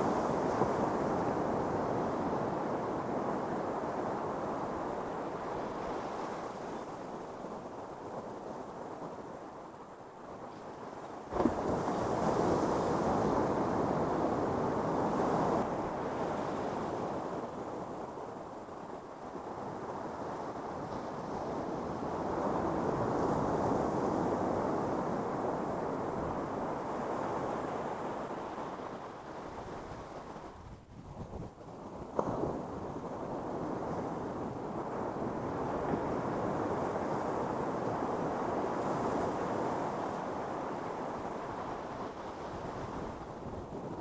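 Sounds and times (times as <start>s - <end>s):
surf washing up a beach: 0.0s - 44.0s.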